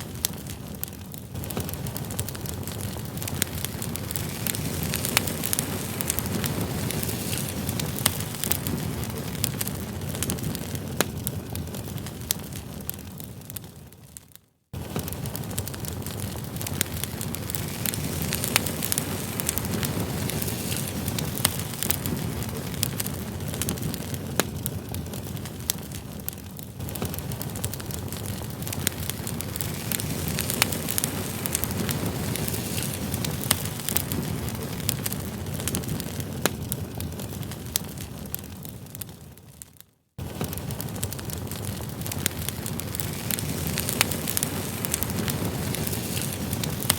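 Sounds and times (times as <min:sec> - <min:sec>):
low rush of flame: 0:00.0 - 0:14.2, 0:14.8 - 0:39.6, 0:40.2 - 0:46.9
campfire crackling and popping: 0:00.0 - 0:46.9.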